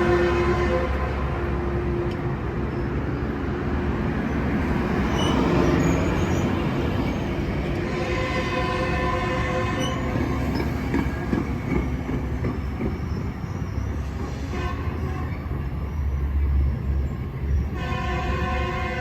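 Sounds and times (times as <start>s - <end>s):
diesel locomotive running: 0.0s - 19.0s
train cars rumbling over rails: 0.0s - 19.0s.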